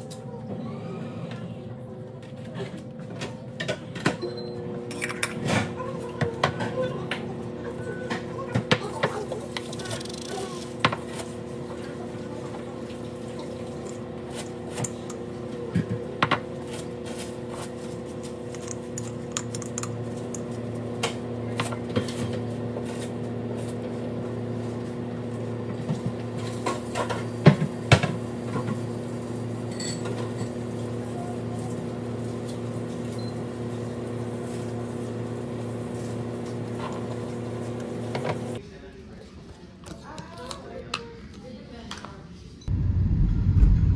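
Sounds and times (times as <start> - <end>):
appliance hum: 0.0 - 38.7, 42.6 - 43.9.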